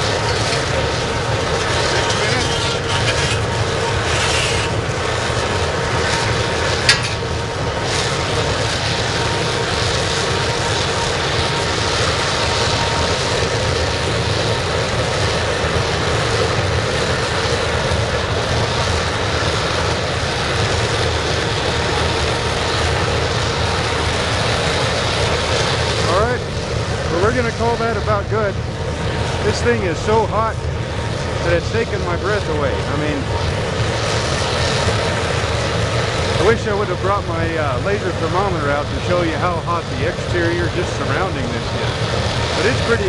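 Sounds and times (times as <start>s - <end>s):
burner rushing noise: 0.0s - 43.0s.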